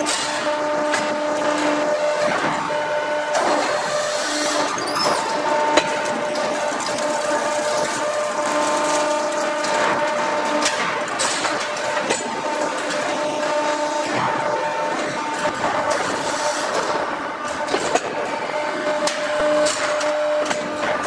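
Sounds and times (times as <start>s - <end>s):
hydraulic press humming: 0.0s - 21.0s.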